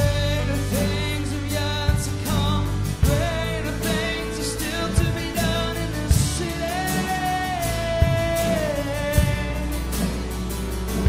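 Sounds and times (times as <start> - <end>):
man singing: 0.0 - 10.4
acoustic guitar strumming: 0.0 - 11.0
drum hits: 0.0 - 11.0.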